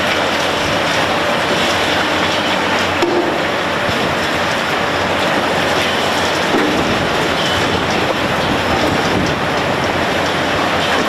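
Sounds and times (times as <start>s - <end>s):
concrete crunching and grinding: 0.0s - 11.0s.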